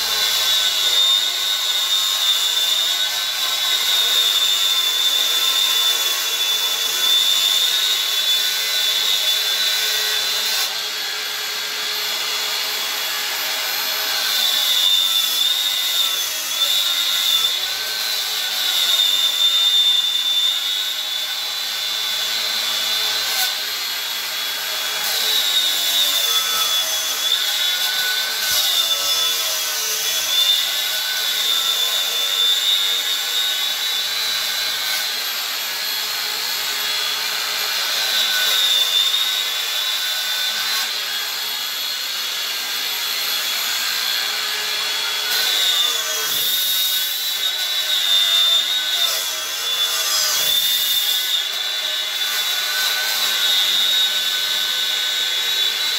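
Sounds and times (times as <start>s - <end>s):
angle grinder cutting wood: 0.0s - 55.9s.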